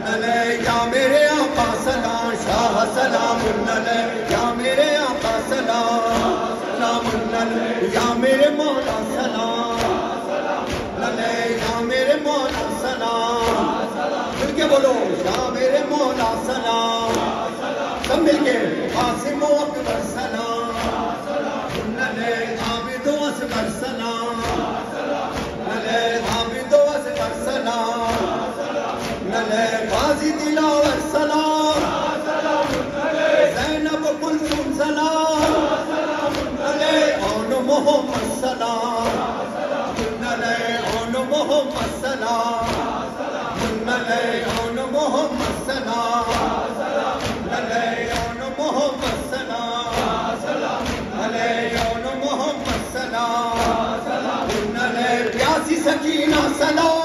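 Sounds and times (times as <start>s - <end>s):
crowd of men singing in unison: 0.0s - 57.0s
men reciting a lament: 0.0s - 57.0s.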